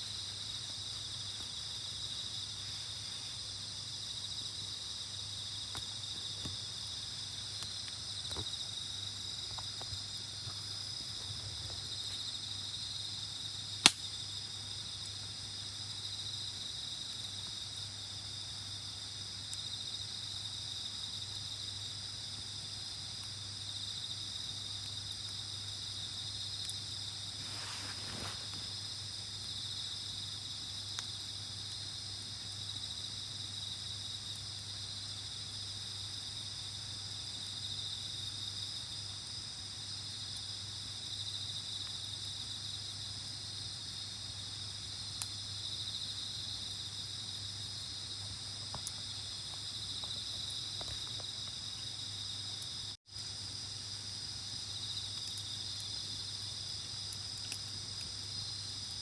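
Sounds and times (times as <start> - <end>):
crickets and insects chirring: 0.0 - 59.0.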